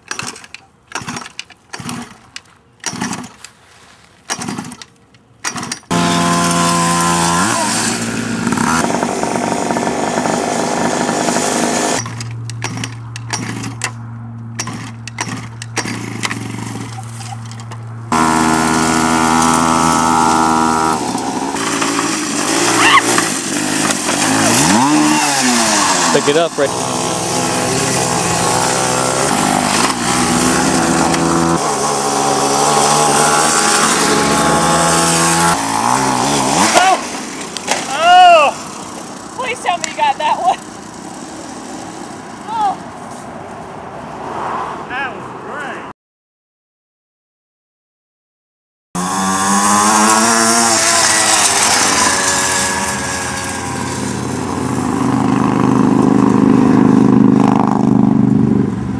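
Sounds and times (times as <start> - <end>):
small engine running hard: 5.5 - 42.8, 49.0 - 58.9.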